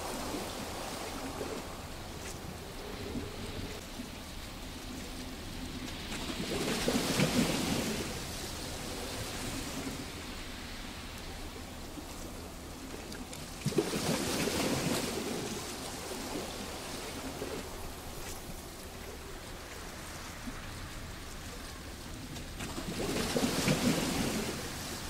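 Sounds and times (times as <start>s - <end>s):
sea waves on rocky beach: 0.0s - 25.0s.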